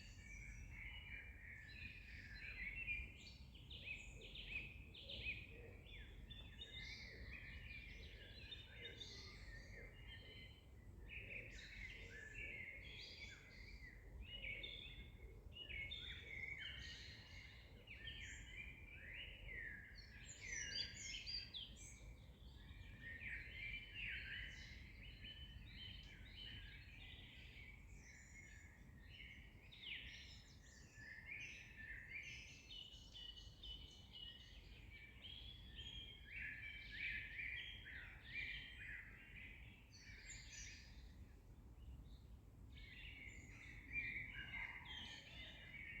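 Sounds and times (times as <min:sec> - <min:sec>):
songbirds chirping and trilling: 0:00.0 - 0:46.0.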